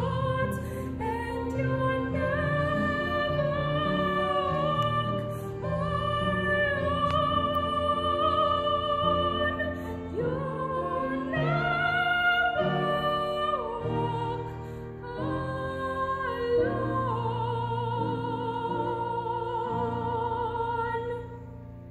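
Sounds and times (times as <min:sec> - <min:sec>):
woman singing operatically: 0:00.0 - 0:21.4.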